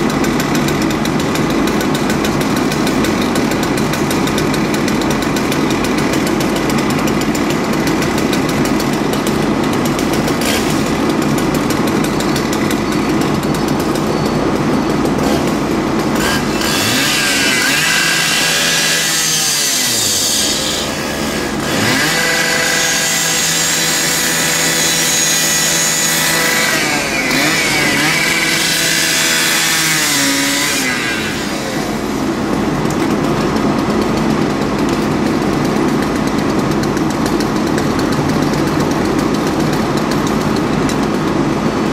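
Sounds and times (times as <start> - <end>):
engine drone: 0.0 - 41.9
power saw revving: 0.0 - 41.9.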